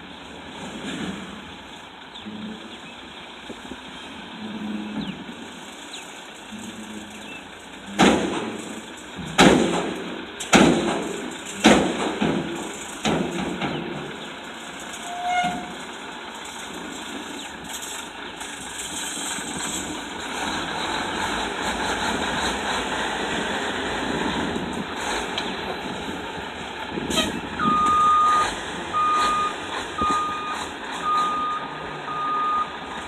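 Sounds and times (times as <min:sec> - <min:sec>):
steady rumbling noise: 0:00.0 - 0:33.0
dump truck bangs: 0:06.5 - 0:33.0.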